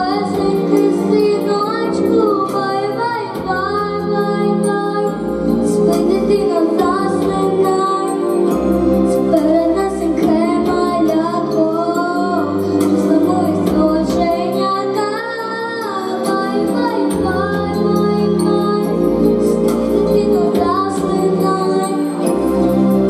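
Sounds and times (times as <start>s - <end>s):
instrumental accompaniment: 0.0s - 23.0s.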